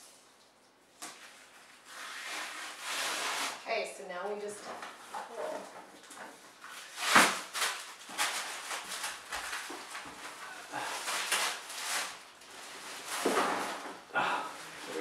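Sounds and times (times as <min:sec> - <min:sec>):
plastic and paper wrapping crinkling: 0:01.1 - 0:15.0.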